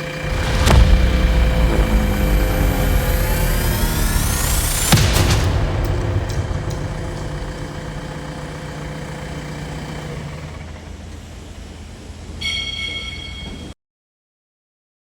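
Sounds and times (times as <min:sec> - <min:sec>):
diesel engine running: 0:00.0 - 0:12.4.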